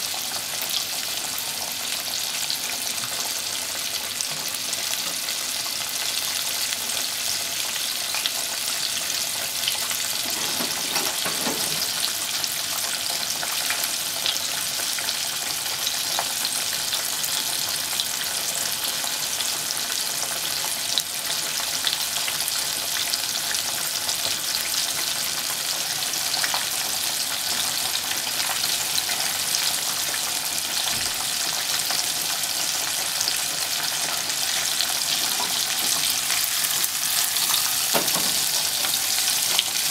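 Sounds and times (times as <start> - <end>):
deep-frying sizzle with crackles: 0.0 - 39.9.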